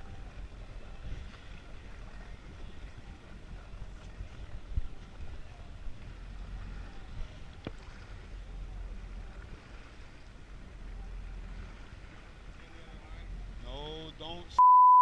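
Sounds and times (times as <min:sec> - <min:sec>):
hiss of wind and water: 0:00.0 - 0:14.5
boat engine rumbling: 0:00.0 - 0:14.6.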